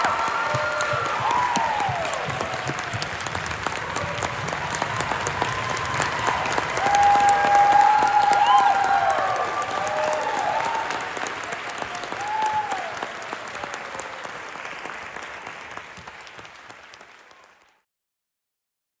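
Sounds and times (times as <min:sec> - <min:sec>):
audience applauding: 0:00.0 - 0:17.8.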